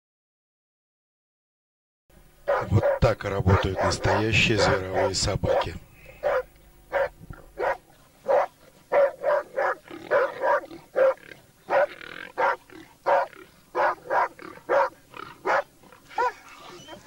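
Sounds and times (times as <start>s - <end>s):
dogs barking: 2.4s - 17.0s.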